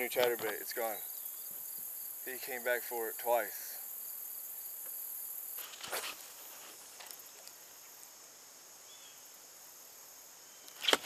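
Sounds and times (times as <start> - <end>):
insects chirping chorus: 0.0 - 11.0
steady hiss: 0.0 - 11.0.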